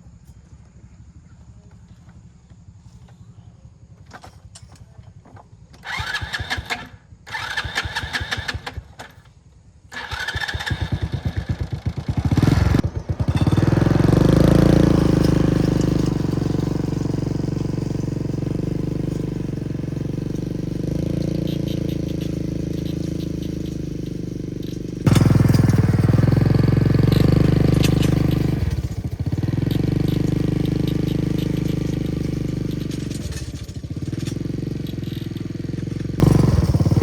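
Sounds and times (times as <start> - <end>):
small engine running: 0.0 - 37.0
engine being cranked: 4.0 - 9.3, 9.9 - 37.0.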